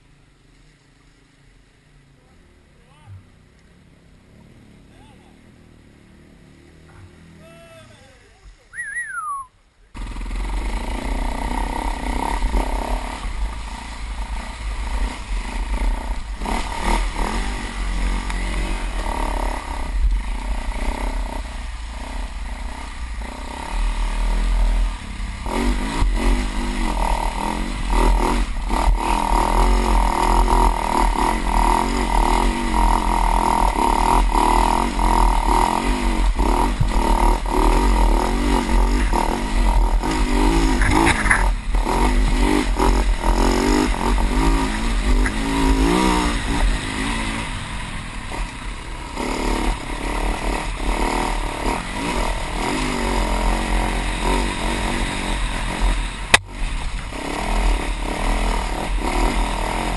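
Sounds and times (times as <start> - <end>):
dirt bike engine revving: 8.8 - 59.9.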